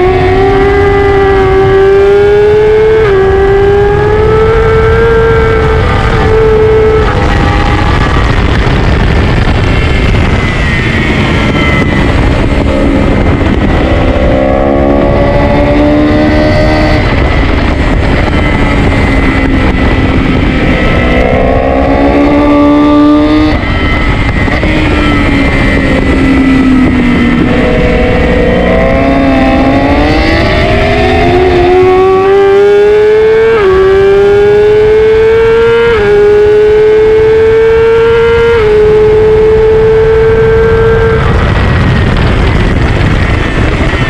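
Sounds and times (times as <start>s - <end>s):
motorcycle engine accelerating: 0.0s - 44.0s
wind rush on microphone: 0.0s - 44.0s.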